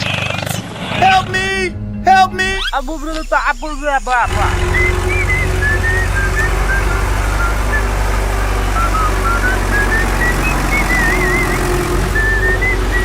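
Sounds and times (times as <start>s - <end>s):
low engine rumble: 0.6s - 13.0s
wavering trill: 1.0s - 13.0s
short high whistling notes: 2.4s - 13.0s.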